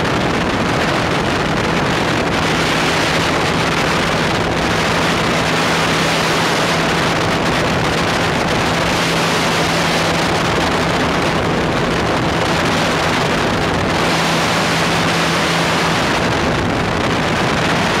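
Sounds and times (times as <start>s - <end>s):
engine and propeller drone: 0.0s - 18.0s
wind rush on microphone: 0.0s - 18.0s.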